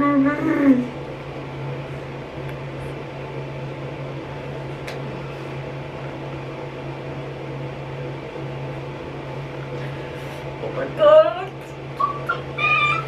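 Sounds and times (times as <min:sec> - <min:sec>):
ventilation fan humming: 0:00.0 - 0:13.0.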